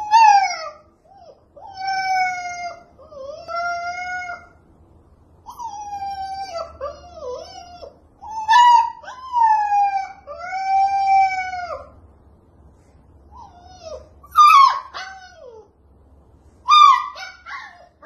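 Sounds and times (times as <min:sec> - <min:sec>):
puppy howling: 0:00.0 - 0:04.6, 0:05.5 - 0:12.0, 0:13.4 - 0:15.7, 0:16.7 - 0:18.0.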